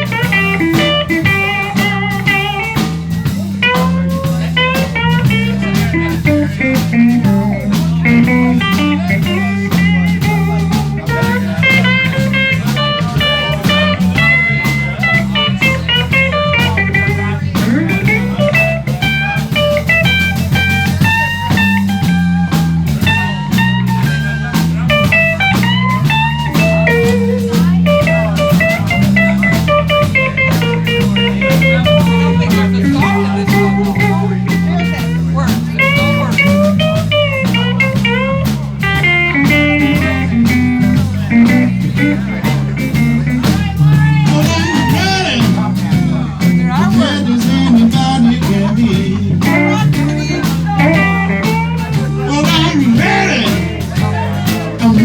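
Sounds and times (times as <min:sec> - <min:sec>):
drum kit beat: 0:00.0 - 0:55.0
electric guitar lead lines: 0:00.0 - 0:55.0
walking bass: 0:00.0 - 0:55.0.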